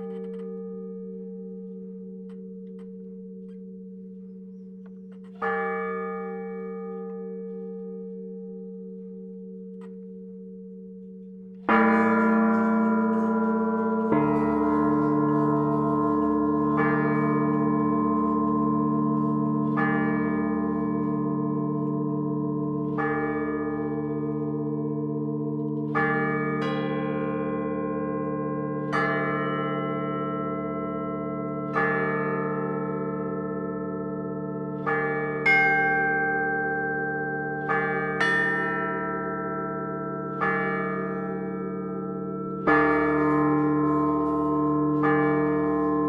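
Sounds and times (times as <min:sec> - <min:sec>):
church bells pealing: 0:00.0 - 0:02.4, 0:05.3 - 0:09.3, 0:11.6 - 0:46.0
deeper bell: 0:00.0 - 0:46.0.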